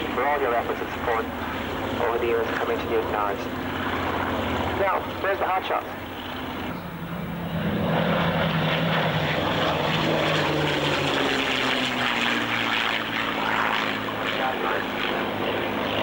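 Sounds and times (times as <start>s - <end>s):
propeller planes flying past: 0.0s - 16.0s.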